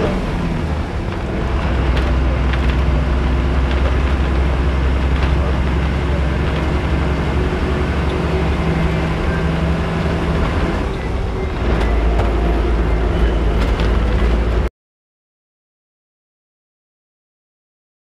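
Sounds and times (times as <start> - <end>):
bus engine and road rumble: 0.0 - 14.7.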